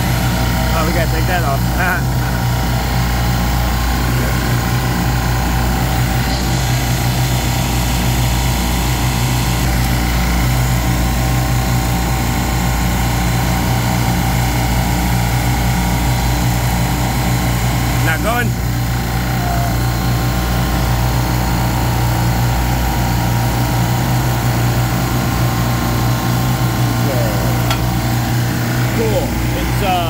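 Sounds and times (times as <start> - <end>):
refrigeration machinery humming: 0.0 - 30.0.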